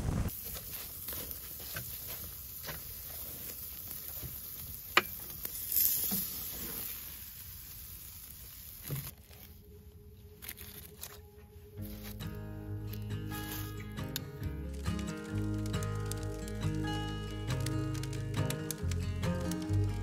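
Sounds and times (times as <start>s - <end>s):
steak sizzling on grill: 0.3s - 9.1s, 11.8s - 20.0s.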